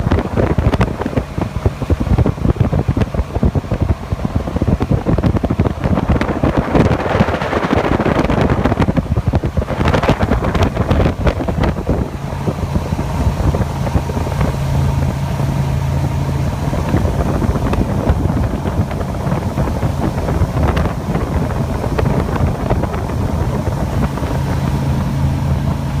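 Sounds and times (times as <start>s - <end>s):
boat engine humming: 0.0s - 26.0s
wind noise on microphone: 0.0s - 26.0s.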